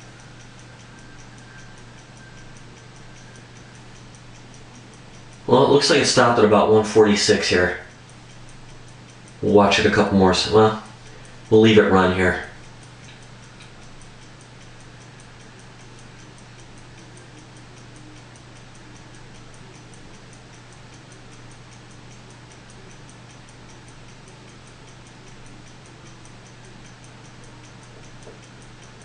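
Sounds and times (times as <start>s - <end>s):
steady low hum: 0.0s - 29.0s
stopwatch ticking rapidly: 0.0s - 29.0s.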